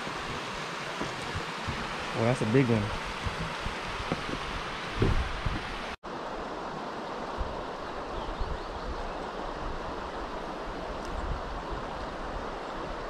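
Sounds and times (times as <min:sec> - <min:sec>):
wind gusting on microphone: 0:00.0 - 0:06.0, 0:07.2 - 0:13.0
river water flowing: 0:00.0 - 0:13.0.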